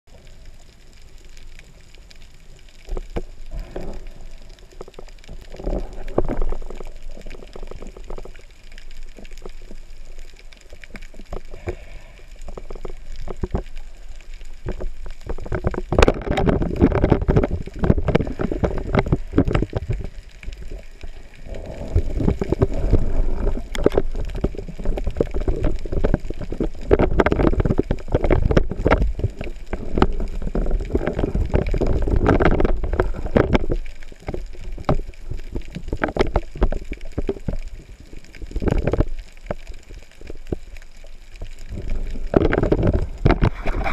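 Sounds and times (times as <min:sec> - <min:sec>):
underwater knocks and clicks: 0:00.1 - 0:43.9
underwater rumble: 0:00.1 - 0:43.9.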